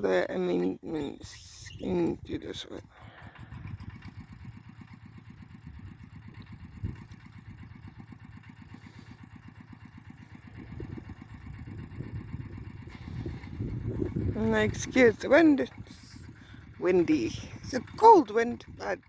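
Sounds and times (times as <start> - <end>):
plough engine running: 0.0 - 19.0.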